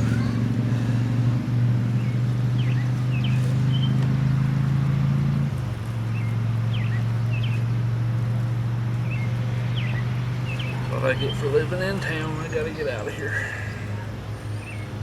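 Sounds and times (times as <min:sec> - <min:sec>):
small birds chirping: 0:01.8 - 0:04.8, 0:05.8 - 0:15.0.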